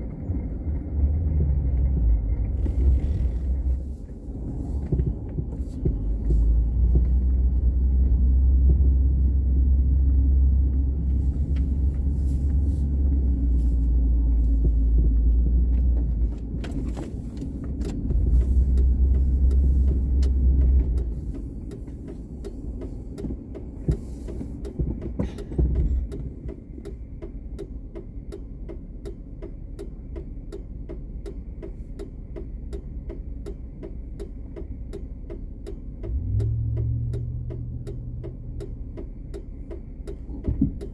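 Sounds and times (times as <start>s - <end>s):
car driving rumble inside cabin: 0.0s - 40.9s
turn signal ticking: 0.0s - 40.9s.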